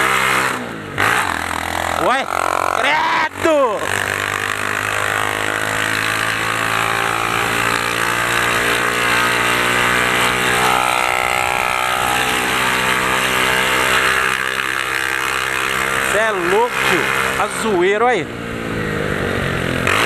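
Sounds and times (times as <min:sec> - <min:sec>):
loud motorcycle engine: 0:00.0 - 0:20.0.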